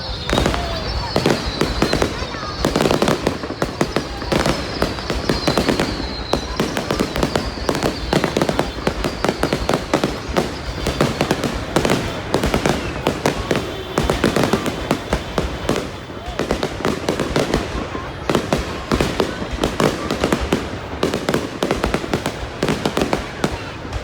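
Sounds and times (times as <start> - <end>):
falling firework whistle: 0.0 - 24.0
fireworks bangs and crackles: 0.0 - 24.0.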